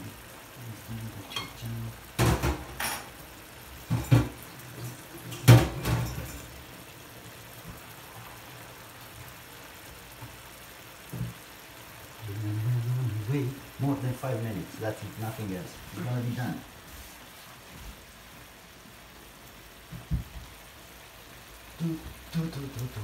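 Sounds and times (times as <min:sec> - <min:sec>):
broth bubbling in frying pan: 0:00.0 - 0:23.0.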